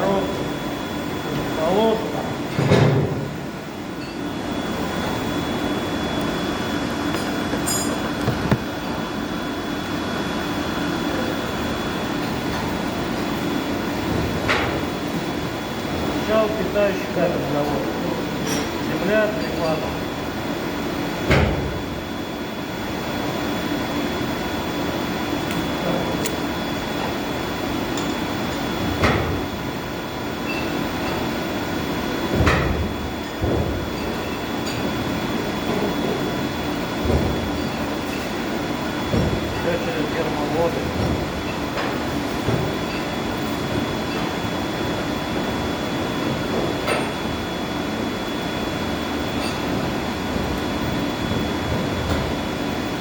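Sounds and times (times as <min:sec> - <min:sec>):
machinery hum and hiss: 0:00.0 - 0:53.0.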